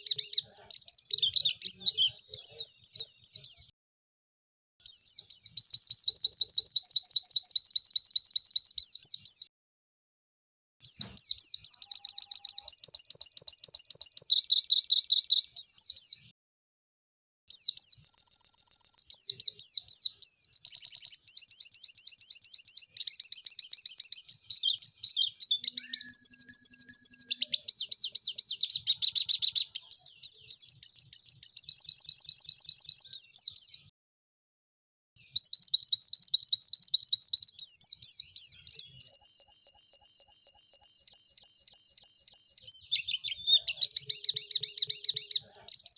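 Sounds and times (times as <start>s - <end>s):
bird song with high trills: 0.0s - 3.7s, 4.8s - 9.5s, 10.8s - 16.3s, 17.5s - 33.9s, 35.2s - 45.9s.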